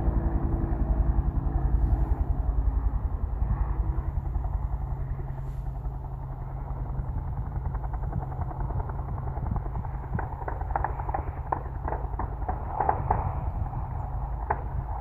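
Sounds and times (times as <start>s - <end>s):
distant helicopter rotor beating: 0.0s - 15.0s.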